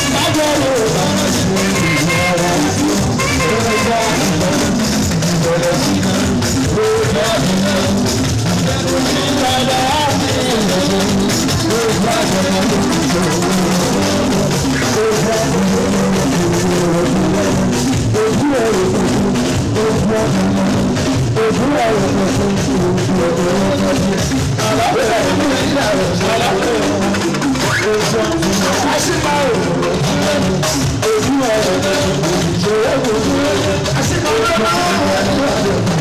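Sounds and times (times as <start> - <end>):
bass guitar: 0.0 - 36.0
drums: 0.0 - 36.0
electric guitars: 0.0 - 36.0
man singing: 0.0 - 36.0.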